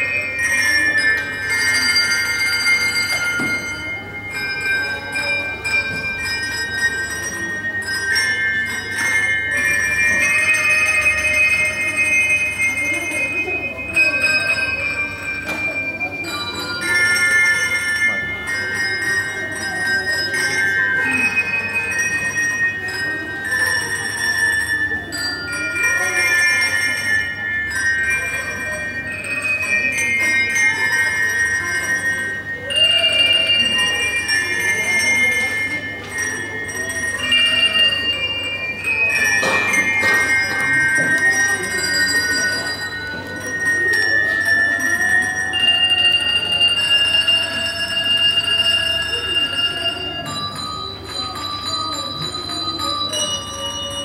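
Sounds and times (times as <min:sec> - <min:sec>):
handbells ringing a melody: 0:00.0 - 0:54.0.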